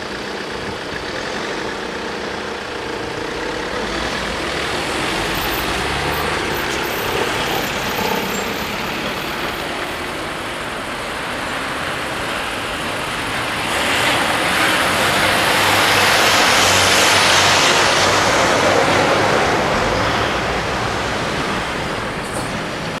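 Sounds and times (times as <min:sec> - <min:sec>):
cars passing: 0:00.0 - 0:23.0
truck passing by: 0:00.0 - 0:23.0.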